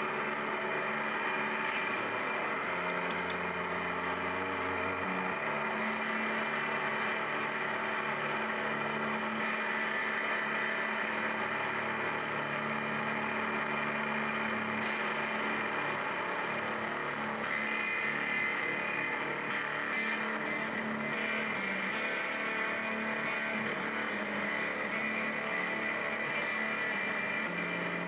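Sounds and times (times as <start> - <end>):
ambient drone music: 0.0 - 28.0.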